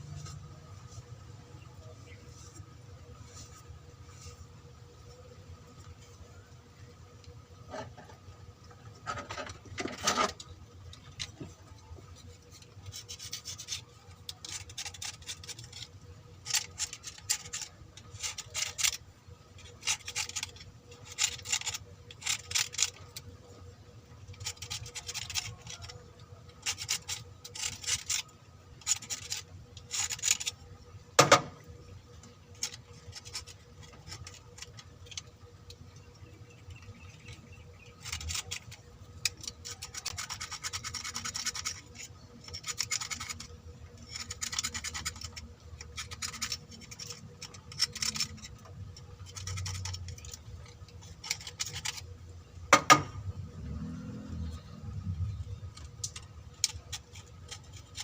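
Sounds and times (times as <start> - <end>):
hand scraping an engine part: 7.6 - 58.0.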